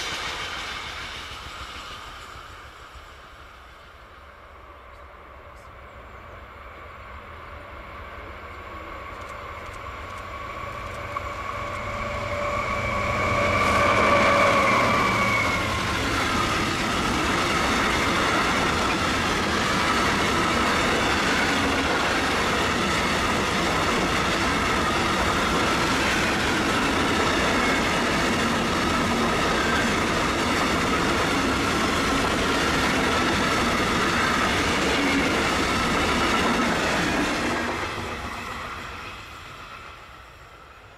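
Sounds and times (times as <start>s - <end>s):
locomotive whine: 3.9s - 40.9s
wagons rumbling over rails: 7.3s - 40.8s.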